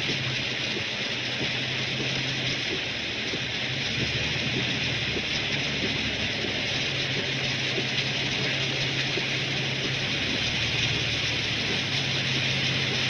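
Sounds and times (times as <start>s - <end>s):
car engine humming: 0.0s - 13.0s
rain falling on a car: 0.0s - 13.0s.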